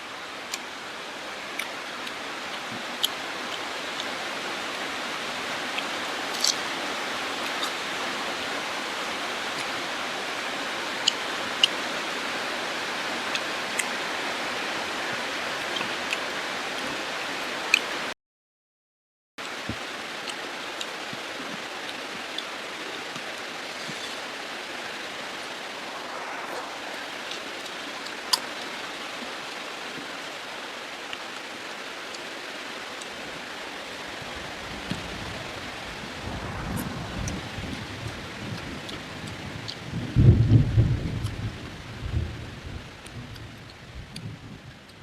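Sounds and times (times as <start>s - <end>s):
heavy rain hissing: 0.0s - 18.1s, 19.4s - 44.4s.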